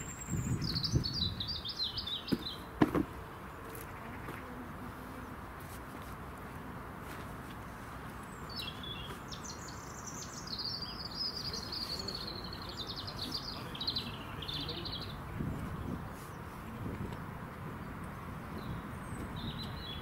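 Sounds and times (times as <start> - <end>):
songbird singing: 0.0 - 5.7, 6.4 - 20.0.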